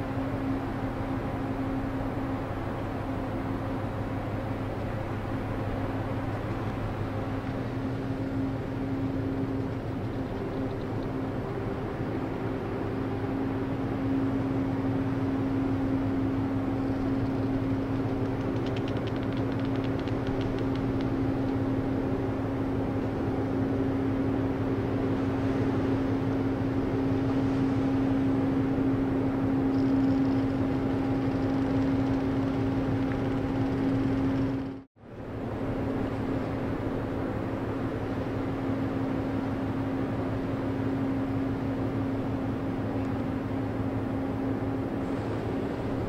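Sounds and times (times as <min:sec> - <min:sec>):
ship engines droning: 0:00.0 - 0:46.0.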